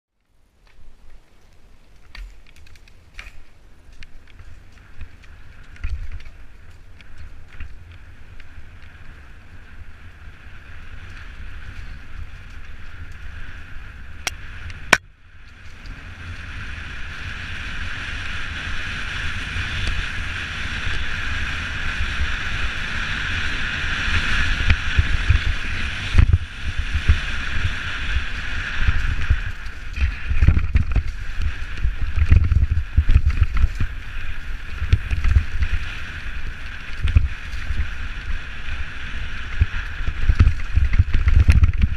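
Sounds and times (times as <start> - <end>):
wind and tyre noise: 0.1 - 41.9
bike rattling over ground: 0.5 - 41.9.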